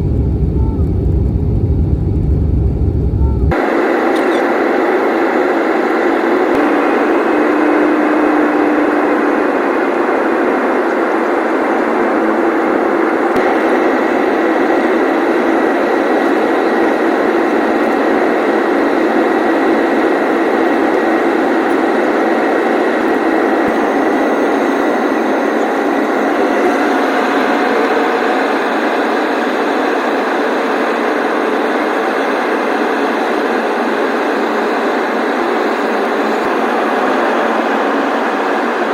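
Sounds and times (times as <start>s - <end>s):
airliner cabin engine and airflow rush: 0.0s - 38.9s
faint steady whine: 0.0s - 38.9s.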